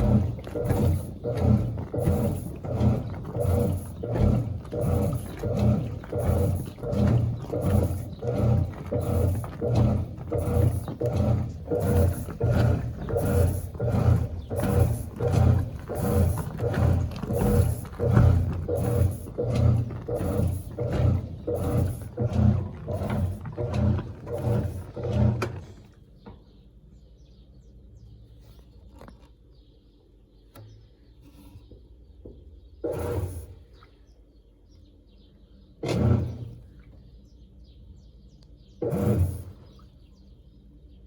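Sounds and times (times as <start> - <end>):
washing machine agitating: 0.0 - 26.8, 30.6 - 41.0.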